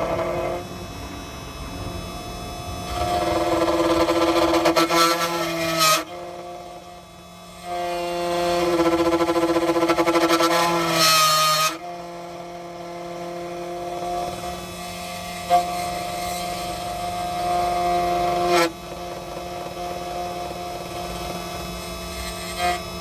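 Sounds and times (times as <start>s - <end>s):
key-cutting machine motor hum: 0.0s - 23.0s.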